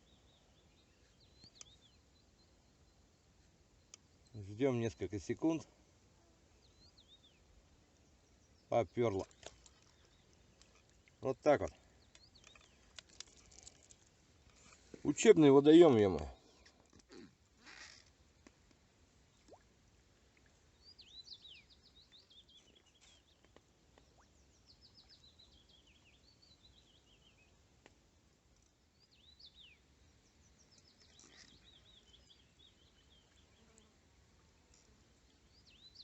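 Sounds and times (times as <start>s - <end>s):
faint songbird singing: 0.0s - 18.1s, 20.4s - 36.0s.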